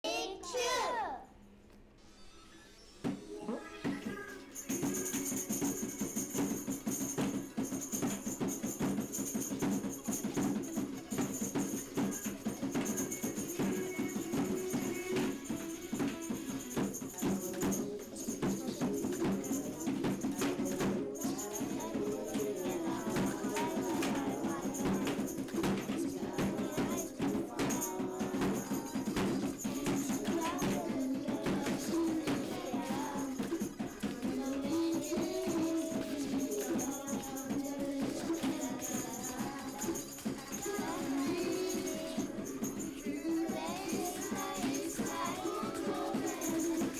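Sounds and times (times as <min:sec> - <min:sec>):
background music with shaken percussion: 0:02.0 - 0:46.9.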